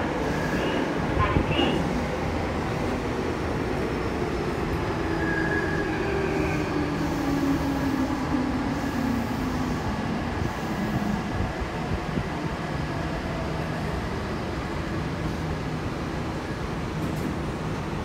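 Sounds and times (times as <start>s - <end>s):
train rumbling in tunnel: 0.0s - 18.0s.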